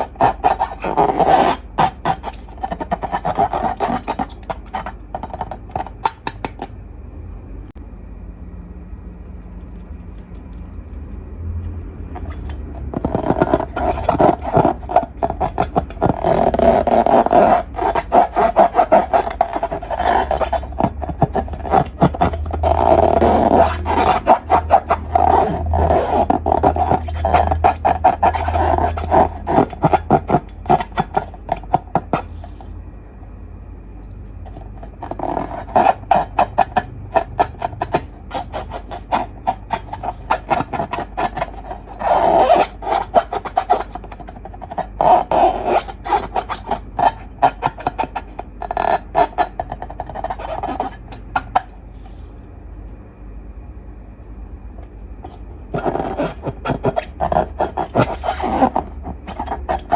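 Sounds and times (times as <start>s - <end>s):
slime and balloons rubbing and crackling: 0.0s - 6.7s, 12.2s - 32.6s, 34.5s - 52.1s, 55.3s - 59.9s
steady low hum: 0.0s - 59.9s.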